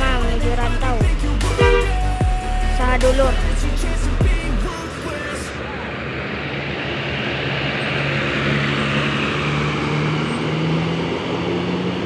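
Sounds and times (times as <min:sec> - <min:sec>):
bus diesel engine: 0:00.0 - 0:12.0
road noise: 0:00.0 - 0:12.0.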